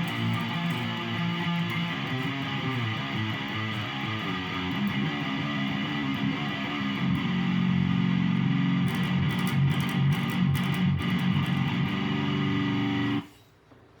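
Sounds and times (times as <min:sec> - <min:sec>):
electric guitar heavy riffs: 0:00.0 - 0:13.2.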